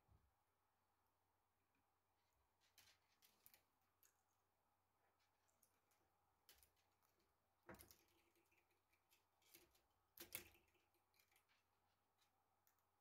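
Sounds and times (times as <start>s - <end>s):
faint plastic clicks and rubs: 2.4s - 13.0s.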